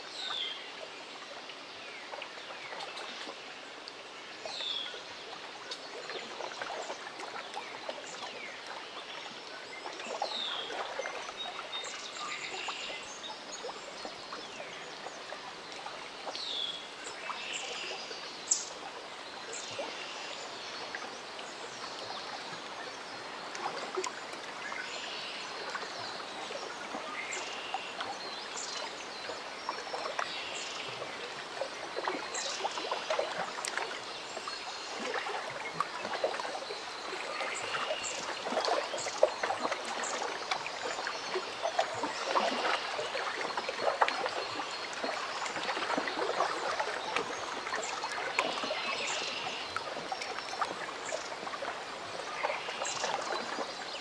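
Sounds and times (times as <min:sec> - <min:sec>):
lake water lapping at shore: 0:00.0 - 0:54.0.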